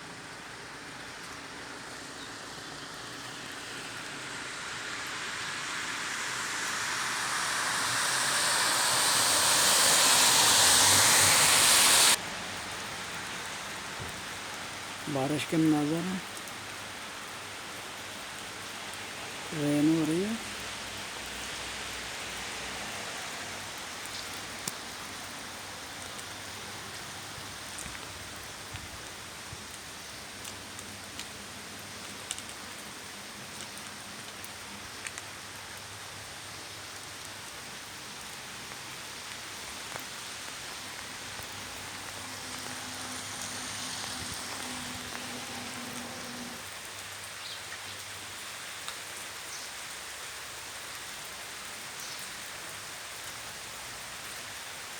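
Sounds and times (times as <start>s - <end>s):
sharp rain ticks: 0.0s - 54.9s
steady rain falling: 0.0s - 54.9s.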